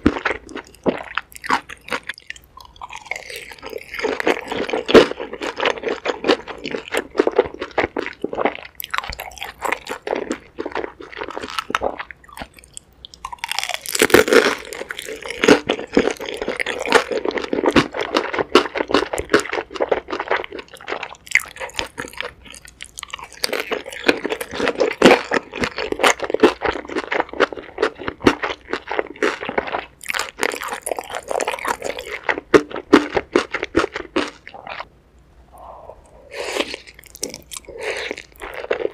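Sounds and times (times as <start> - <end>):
wet chewing and crunching: 0.0 - 34.9, 35.9 - 38.9.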